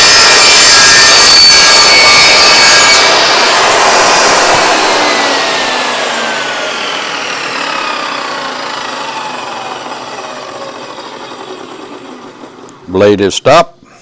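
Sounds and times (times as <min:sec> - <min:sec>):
table saw winding down: 0:00.0 - 0:13.1.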